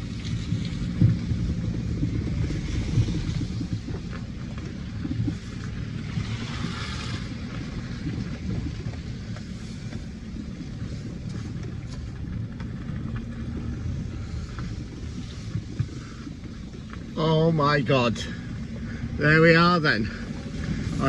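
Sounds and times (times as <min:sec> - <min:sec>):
van engine rumbling: 0:00.0 - 0:21.0.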